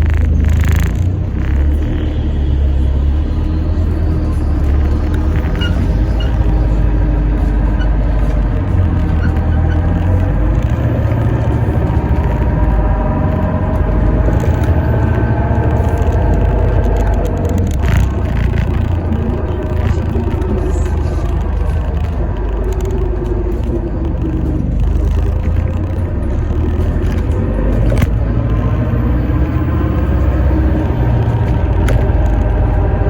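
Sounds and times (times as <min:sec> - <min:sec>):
bus low rumble: 0:00.0 - 0:33.0
rising multi-tone whine: 0:00.0 - 0:33.0.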